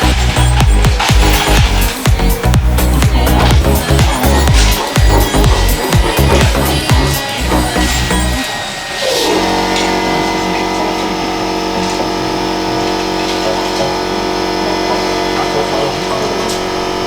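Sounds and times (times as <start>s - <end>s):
small electric motor whining: 0.0s - 17.0s.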